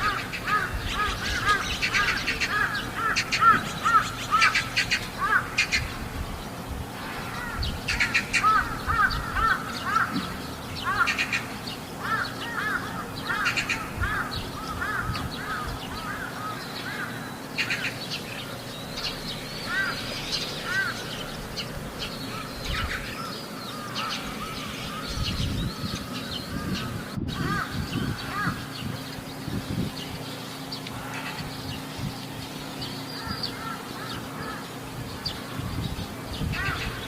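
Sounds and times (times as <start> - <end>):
crows cawing: 0.0 - 6.0, 7.0 - 18.4, 19.6 - 28.7, 30.9 - 31.6, 33.1 - 35.6, 36.4 - 37.0.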